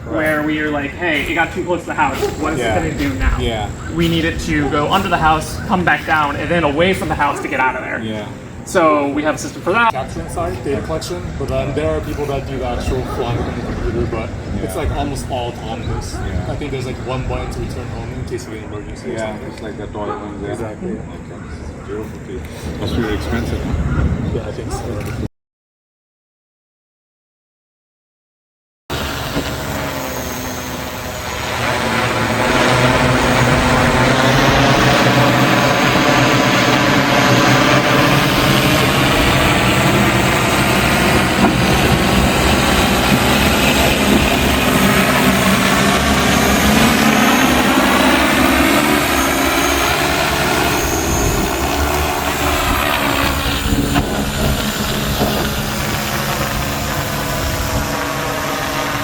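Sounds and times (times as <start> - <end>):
drone propellers buzzing: 0.0 - 18.5, 28.9 - 59.0.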